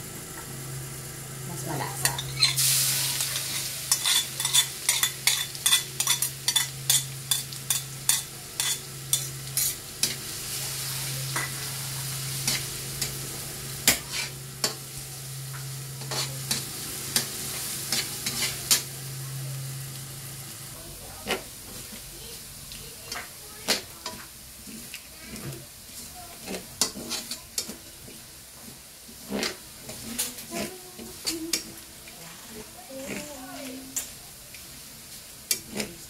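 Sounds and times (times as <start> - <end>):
garlic sizzling in oil: 0.0 - 36.0
spatula scraping pan: 1.8 - 18.9, 21.0 - 34.2, 35.5 - 36.0.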